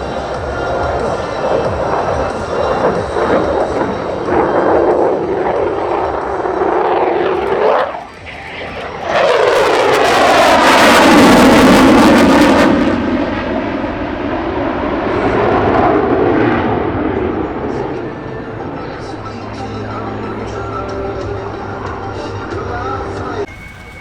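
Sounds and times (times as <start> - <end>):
low-flying aircraft roar: 0.0 - 24.0.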